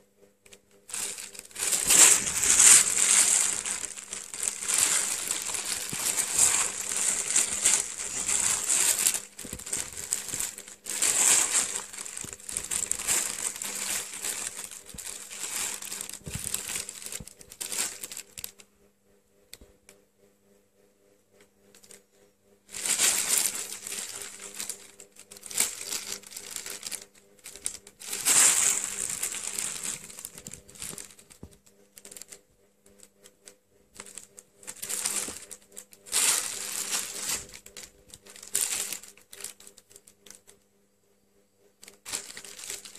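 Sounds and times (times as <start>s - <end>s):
plastic bag crinkling: 0.8s - 18.6s, 22.7s - 32.4s, 34.0s - 40.5s, 41.8s - 42.9s.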